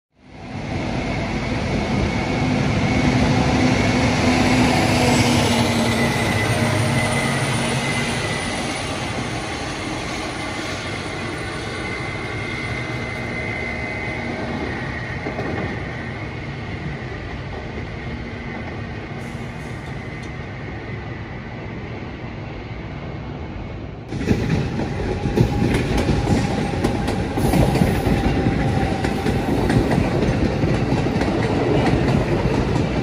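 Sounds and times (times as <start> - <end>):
train running on rails: 0.2 - 33.0.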